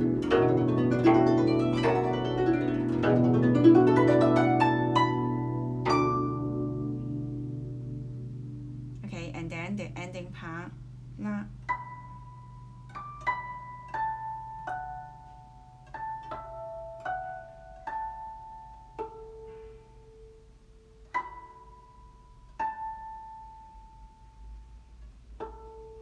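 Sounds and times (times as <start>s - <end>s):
guzheng plucked notes: 0.0s - 26.0s.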